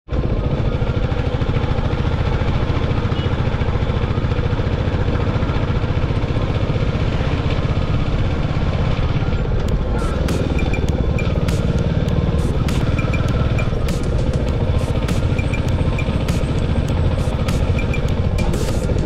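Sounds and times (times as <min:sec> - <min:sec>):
motorcycle engine running: 0:00.1 - 0:19.0.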